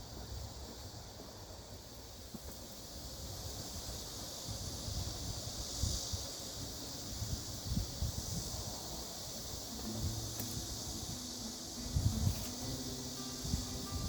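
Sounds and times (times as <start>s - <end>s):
steady high hiss: 0.0s - 14.0s
wind rumbling on microphone: 0.0s - 14.0s.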